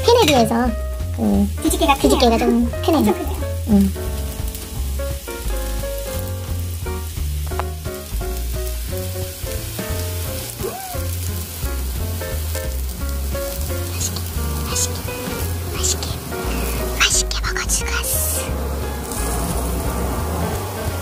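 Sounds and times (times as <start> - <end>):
background music with bass line: 0.0 - 21.0
pancake sizzling in frying pan: 0.0 - 21.0.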